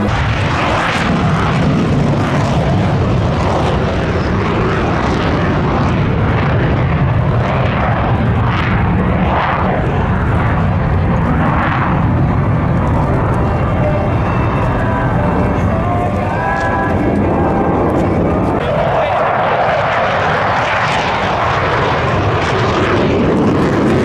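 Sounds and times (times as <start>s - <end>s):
fighter jet flying overhead: 0.0s - 24.0s.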